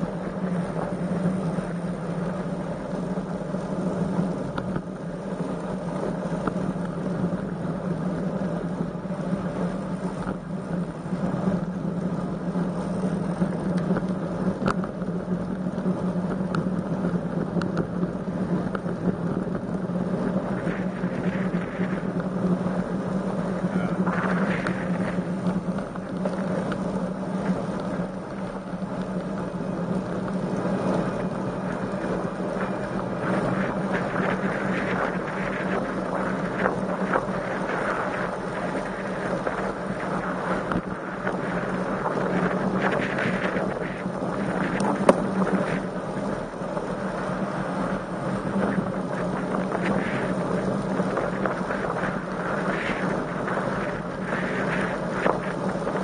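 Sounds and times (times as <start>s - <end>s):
steady low hum: 0.0s - 56.0s
wind buffeting microphone: 0.0s - 56.0s.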